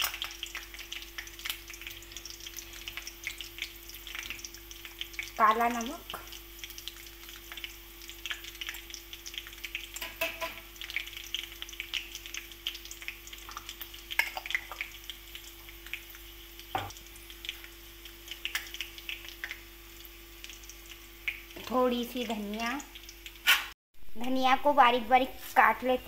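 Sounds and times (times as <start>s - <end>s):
leaves frying in hot oil: 0.0s - 26.0s.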